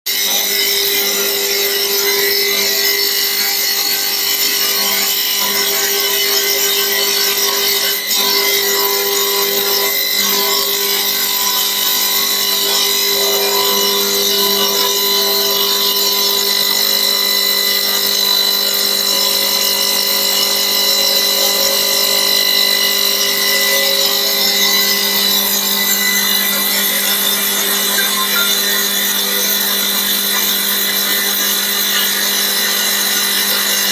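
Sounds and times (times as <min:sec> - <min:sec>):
wood lathe cutting: 0:00.1 - 0:33.9.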